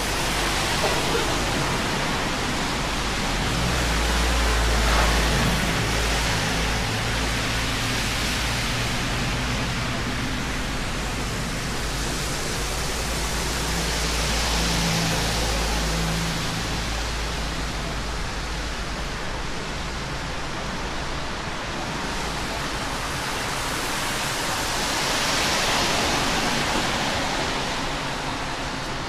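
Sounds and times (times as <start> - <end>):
falling water rushing: 0.0 - 29.0.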